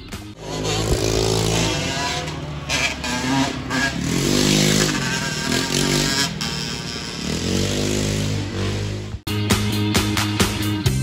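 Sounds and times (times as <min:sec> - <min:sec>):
dirt bike engines revving: 0:00.4 - 0:09.2.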